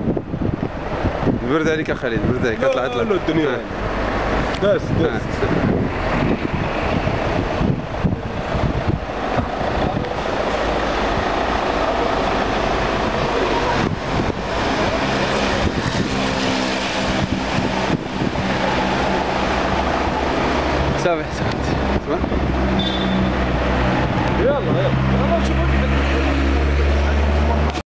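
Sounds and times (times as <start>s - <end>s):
hum of vehicles: 0.0s - 27.8s
engine humming: 2.5s - 27.8s.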